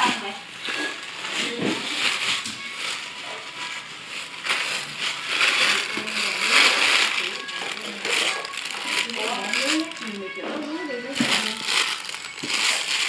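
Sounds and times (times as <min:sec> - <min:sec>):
plastic wrap crinkling: 0:00.0 - 0:13.0.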